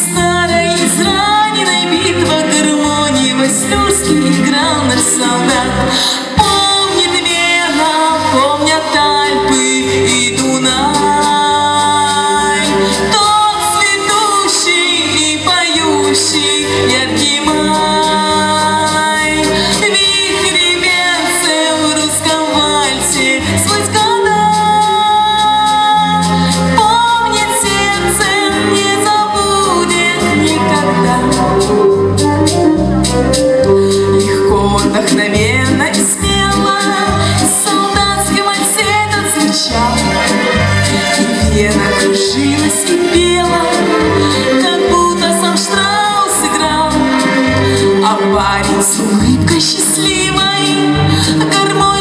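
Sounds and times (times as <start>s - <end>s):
woman singing: 0.0s - 32.0s, 34.1s - 52.0s
pop backing track with beat: 0.0s - 52.0s.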